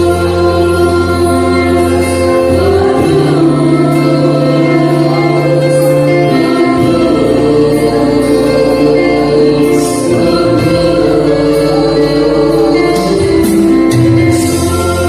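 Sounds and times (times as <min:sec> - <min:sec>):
bass line: 0:00.0 - 0:15.0
choir singing a hymn: 0:00.0 - 0:15.0
held synthesizer chords: 0:00.0 - 0:15.0.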